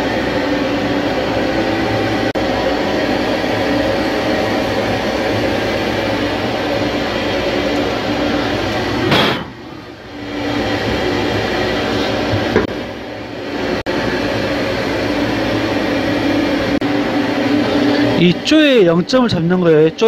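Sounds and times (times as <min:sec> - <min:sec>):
lathe machine hum: 0:00.0 - 0:20.0.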